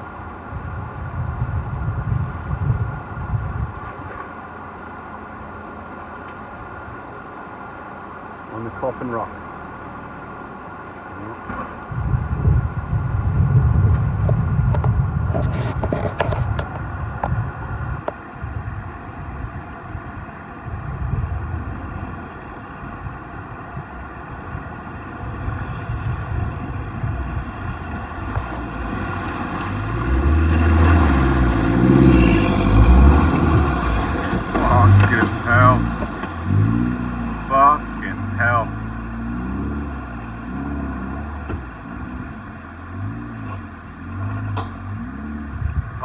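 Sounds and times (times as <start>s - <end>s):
vehicle engine labouring: 0.0s - 46.0s.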